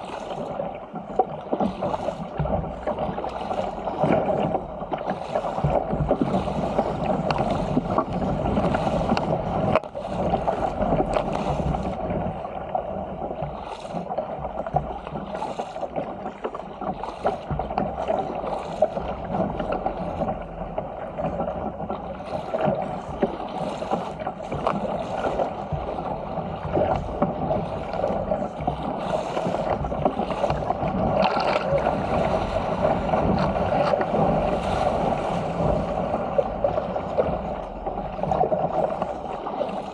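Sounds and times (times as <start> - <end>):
water rushing along hull: 0.0 - 39.9
short irregular splashes: 1.6 - 39.9.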